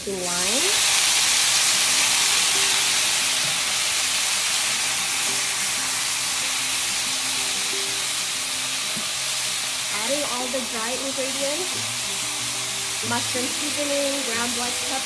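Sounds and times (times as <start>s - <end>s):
mushrooms sizzling in a pan: 0.0s - 15.0s.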